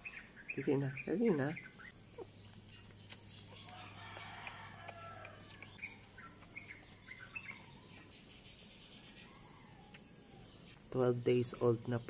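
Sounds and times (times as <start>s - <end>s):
faint chirping: 0.0s - 12.0s.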